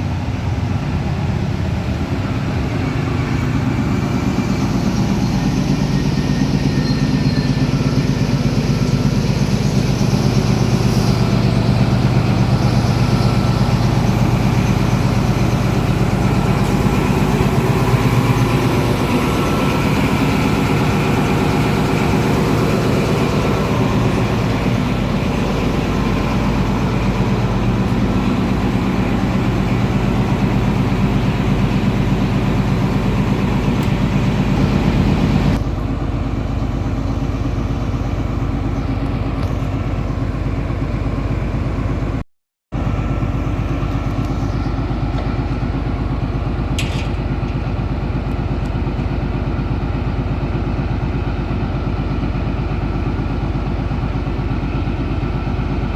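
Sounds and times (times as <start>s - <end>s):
diesel locomotive engine idling: 0.0s - 55.9s.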